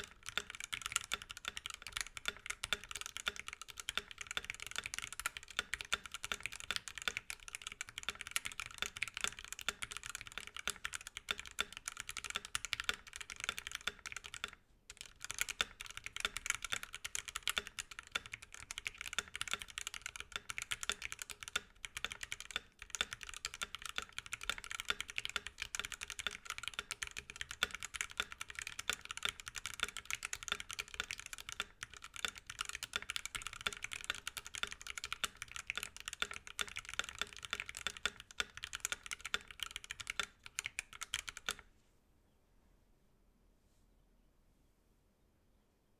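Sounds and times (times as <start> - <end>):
mechanical keyboard typing: 0.0 - 41.6.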